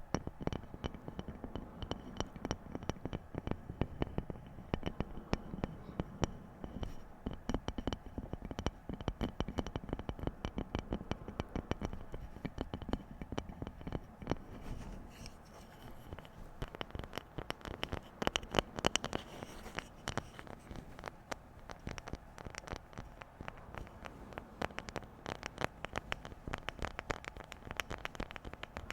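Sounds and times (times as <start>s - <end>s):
fingers rapidly tapping objects: 0.0s - 28.9s.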